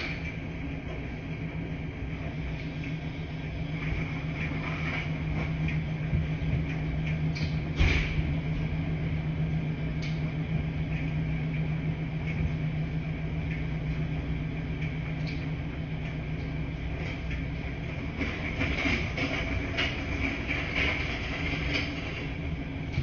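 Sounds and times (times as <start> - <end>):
washing machines humming: 0.0 - 23.0.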